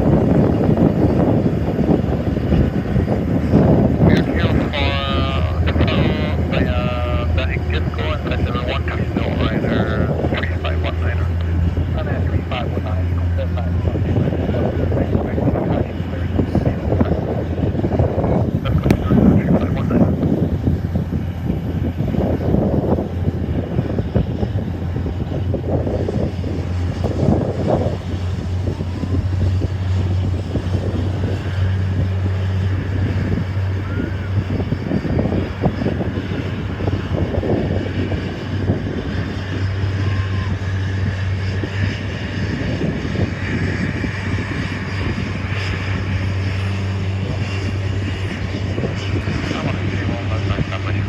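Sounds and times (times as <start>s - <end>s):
jet engines humming: 0.0s - 51.0s
wind buffeting microphone: 0.0s - 51.0s.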